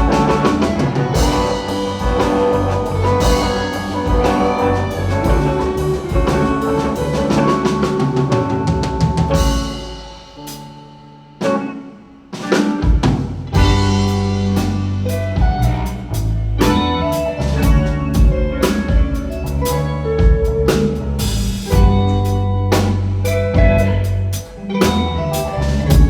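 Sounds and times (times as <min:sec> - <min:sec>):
band music with drums: 0:00.0 - 0:26.0.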